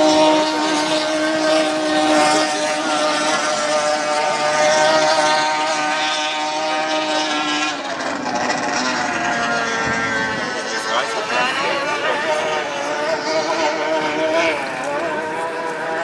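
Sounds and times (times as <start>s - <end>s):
powerboat engine at high revs: 0.0s - 16.0s.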